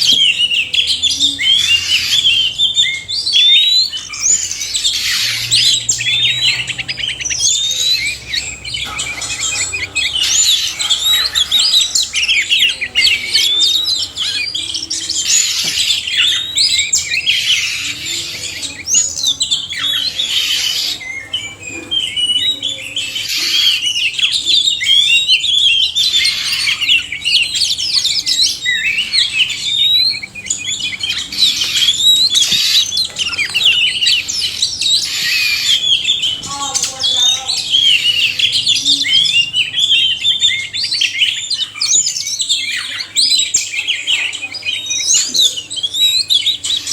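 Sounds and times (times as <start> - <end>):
birds singing whistles and chirps: 0.0 - 46.9.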